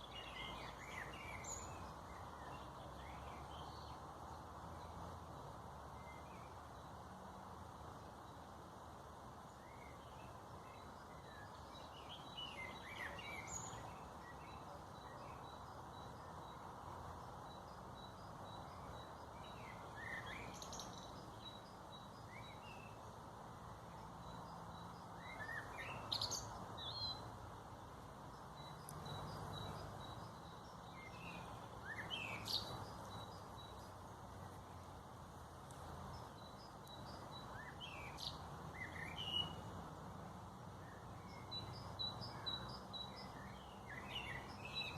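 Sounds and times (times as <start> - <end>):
background hiss: 0.0 - 44.9
wild birds chirping: 0.0 - 44.9.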